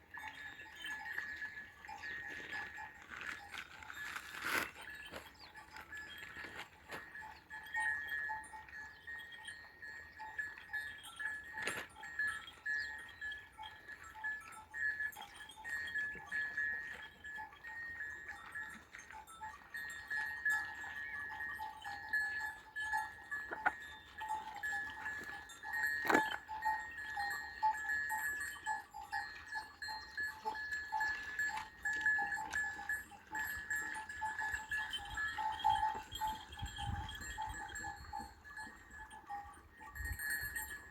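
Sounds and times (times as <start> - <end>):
animal bells clanking: 0.0 - 40.9.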